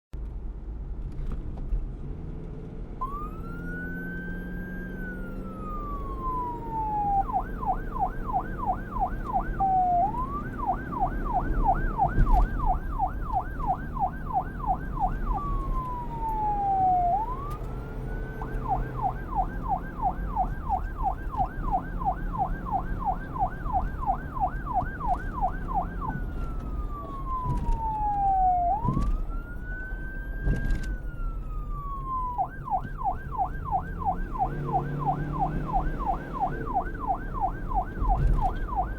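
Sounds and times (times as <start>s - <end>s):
electronic police siren: 3.0s - 38.9s.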